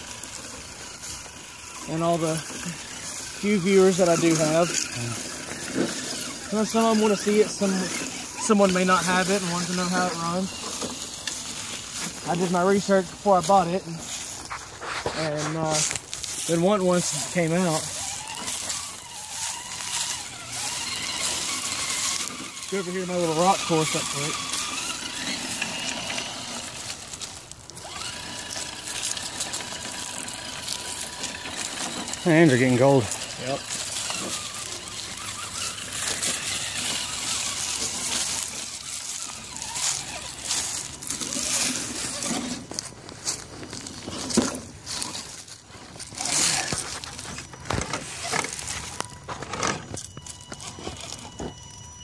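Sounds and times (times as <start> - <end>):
electric motor and gears whining: 0.0 - 52.0
footsteps in dry leaves: 0.0 - 52.0
toy car scraping over rubble: 0.0 - 52.0.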